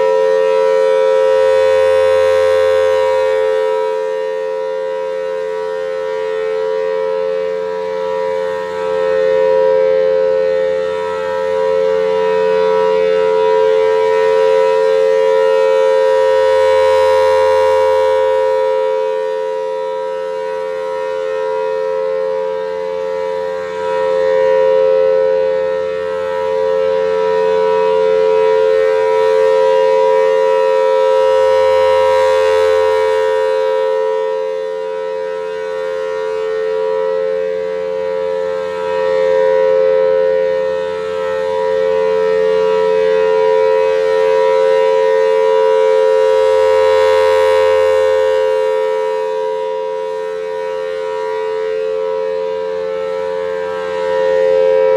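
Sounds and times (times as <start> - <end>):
warning siren steady tone: 0.0 - 54.9.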